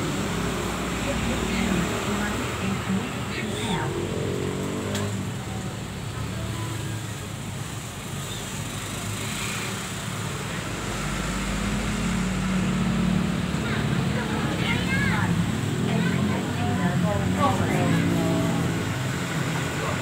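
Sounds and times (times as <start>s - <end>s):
road traffic: 0.0s - 20.0s
vehicle engine hum: 0.0s - 20.0s.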